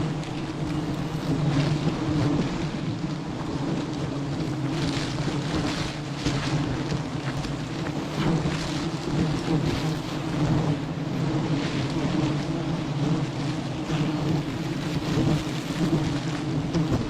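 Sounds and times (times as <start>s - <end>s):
bees humming: 0.0s - 17.0s
wind on microphone: 0.0s - 17.0s.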